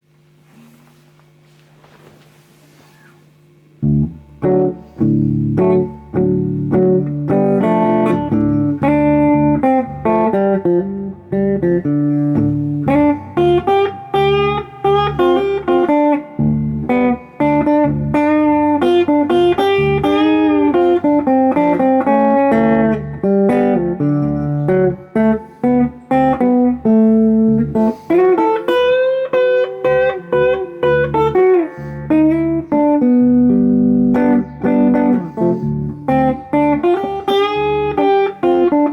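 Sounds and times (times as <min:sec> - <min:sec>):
electric guitar playing blues licks: 0:03.8 - 0:38.9.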